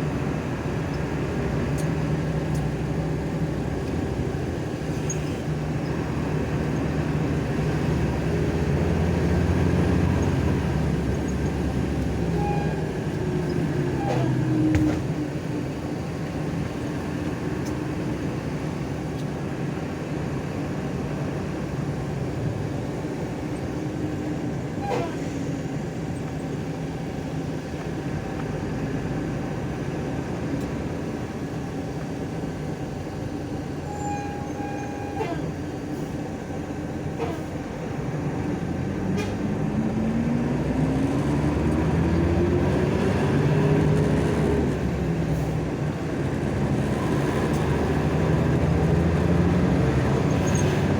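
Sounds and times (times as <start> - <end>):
bus engine running: 0.0 - 50.9
road noise: 0.0 - 50.9.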